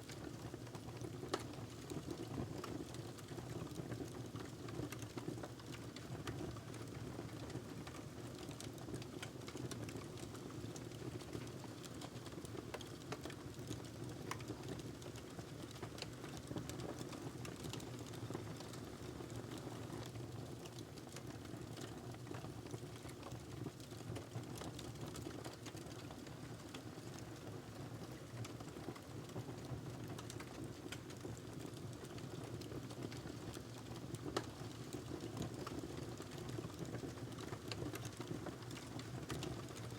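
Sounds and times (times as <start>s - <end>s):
logs crackling and popping: 0.1s - 27.5s, 28.3s - 39.9s.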